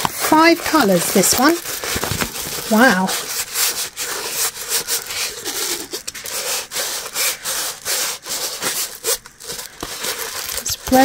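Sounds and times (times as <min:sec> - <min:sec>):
plastic cover rustling by hand: 0:00.0 - 0:11.0.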